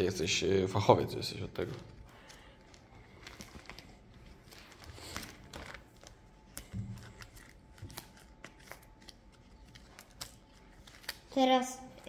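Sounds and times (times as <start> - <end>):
plastic rustling: 1.6 - 11.7.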